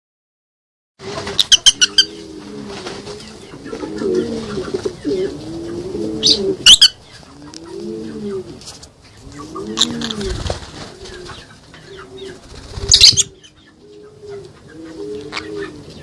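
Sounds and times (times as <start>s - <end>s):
low cooing bird calls: 1.0s - 16.0s.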